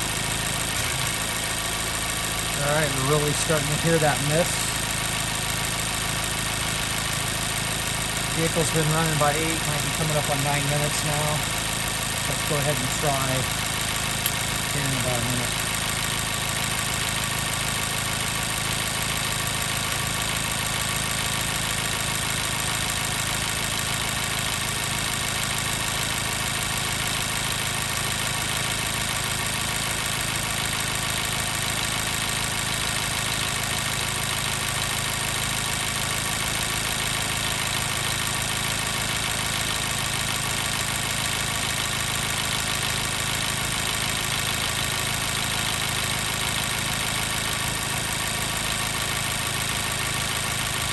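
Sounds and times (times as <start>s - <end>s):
car engine idling with misfire: 0.0s - 50.9s.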